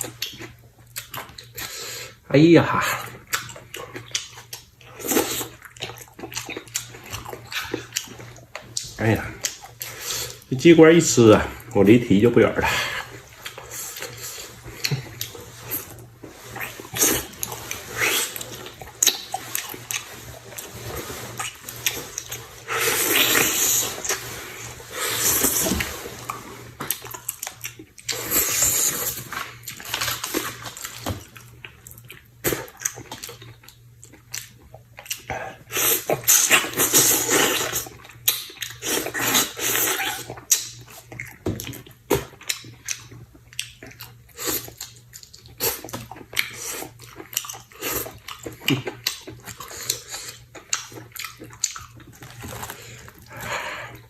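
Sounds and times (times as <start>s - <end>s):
person chewing and slurping: 2.8s - 10.5s, 12.8s - 54.0s.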